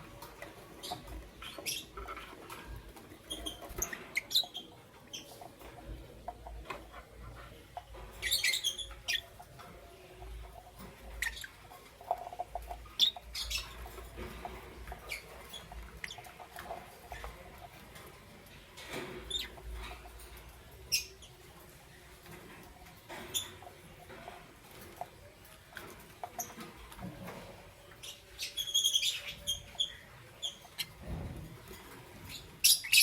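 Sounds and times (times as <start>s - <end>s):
lovebirds chirping: 0.0s - 33.0s.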